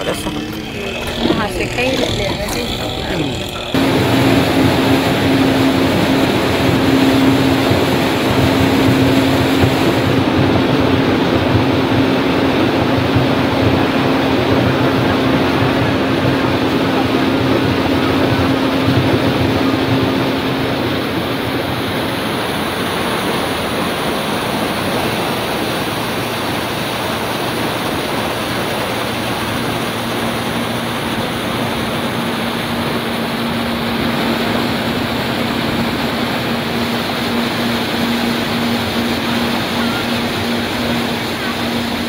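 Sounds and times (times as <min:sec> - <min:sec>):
low steady hum: 0:00.0 - 0:42.0
motorboat engine drone: 0:00.0 - 0:42.0
water rushing: 0:00.0 - 0:42.0
wind: 0:00.0 - 0:42.0.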